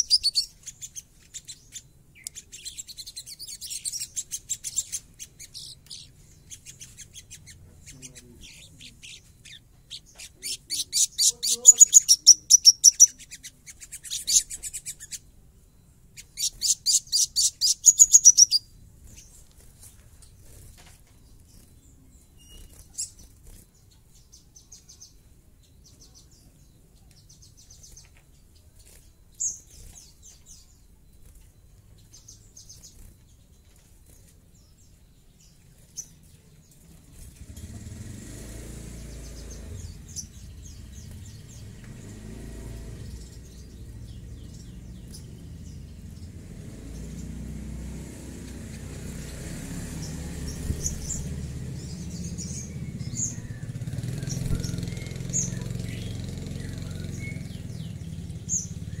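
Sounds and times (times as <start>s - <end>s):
bird singing rapid harsh trill: 0.0s - 59.0s.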